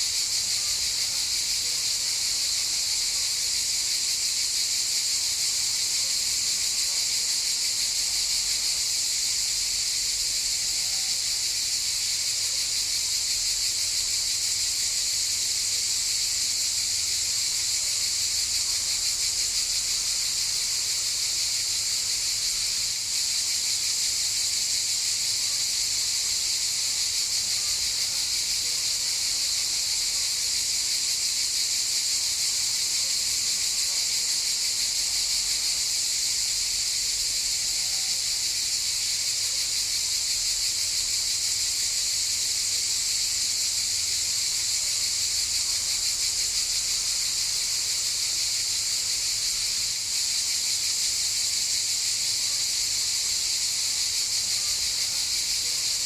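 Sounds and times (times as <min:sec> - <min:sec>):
cicadas buzzing: 0:06.1 - 0:56.0.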